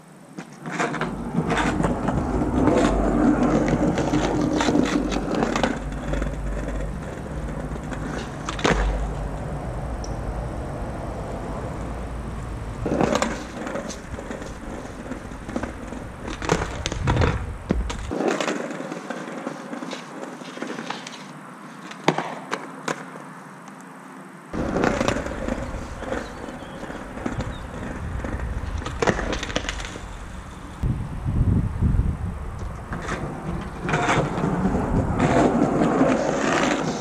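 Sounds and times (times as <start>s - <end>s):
skateboard rolling on paving stones: 0.3s - 23.9s, 24.5s - 37.0s
skateboard clacking on ground: 0.4s - 10.3s, 12.8s - 23.9s, 24.5s - 30.8s, 32.6s - 37.0s.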